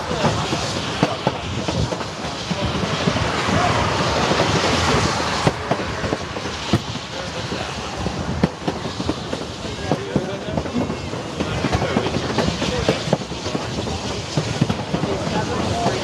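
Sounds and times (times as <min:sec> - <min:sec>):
rush of air: 0:00.0 - 0:16.0
train rumble: 0:00.0 - 0:16.0.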